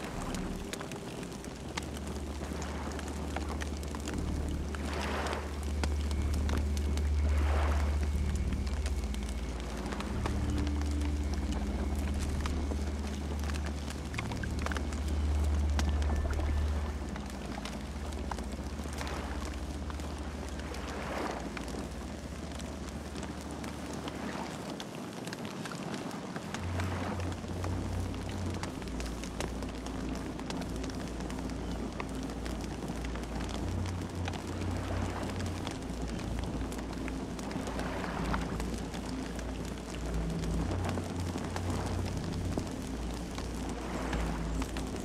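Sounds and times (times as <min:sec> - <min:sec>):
campfire crackling: 0:00.0 - 0:45.0
low fire rumble: 0:00.0 - 0:45.0.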